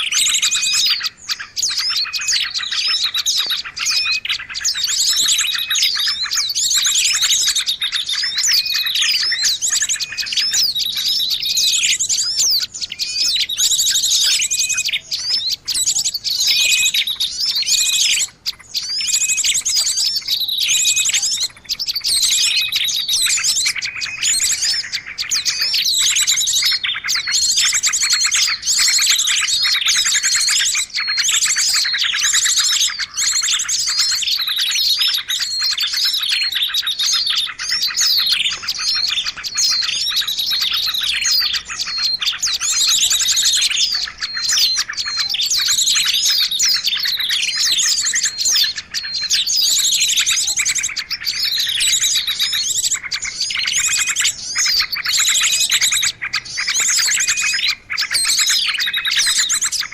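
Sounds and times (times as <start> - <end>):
chorus of birds chirping: 0.0 - 59.9.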